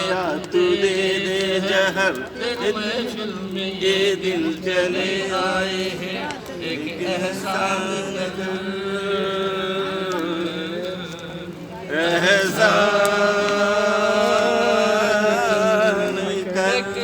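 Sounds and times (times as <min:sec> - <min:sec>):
person singing wordless notes: 0:00.0 - 0:17.0.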